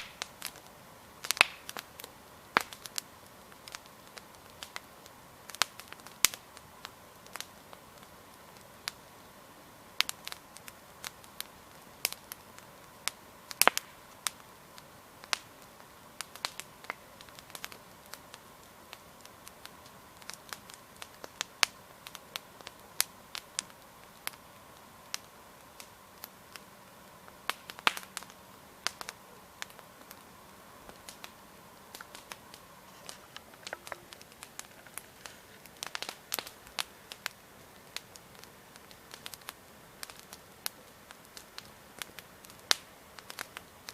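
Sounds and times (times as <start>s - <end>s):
campfire crackling and popping: 0.0s - 43.9s
faint steady hiss: 0.0s - 43.9s.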